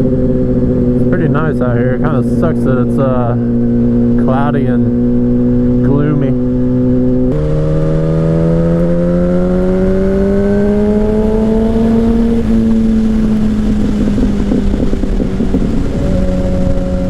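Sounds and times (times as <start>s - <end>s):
motorcycle engine accelerating: 0.0s - 17.0s
wind rumble: 0.0s - 17.0s.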